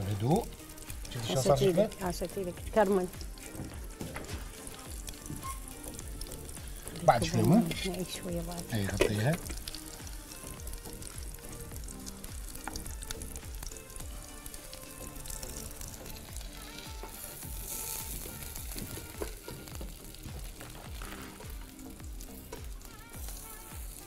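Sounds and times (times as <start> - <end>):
background music with steady beat: 0.0 - 24.0
vegetables sizzling on a grill: 0.0 - 24.0.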